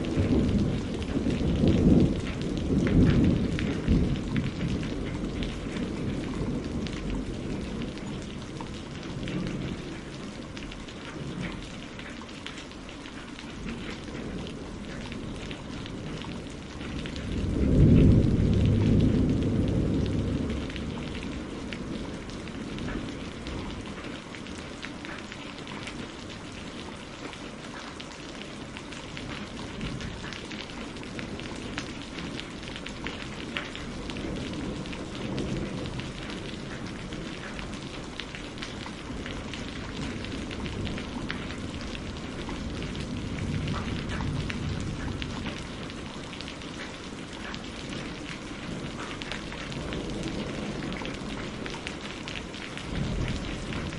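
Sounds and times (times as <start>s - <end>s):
rain pattering on a roof: 0.0s - 53.9s.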